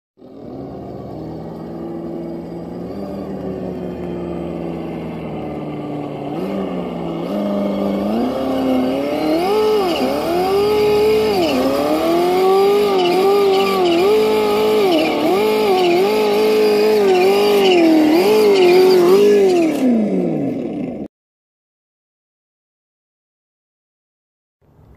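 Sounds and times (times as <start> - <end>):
simulated engine revving: 0.2 - 21.1.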